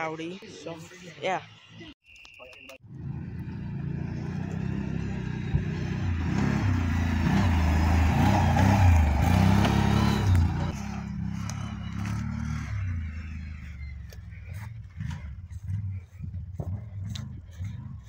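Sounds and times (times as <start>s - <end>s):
atv engine revving: 2.8s - 18.0s.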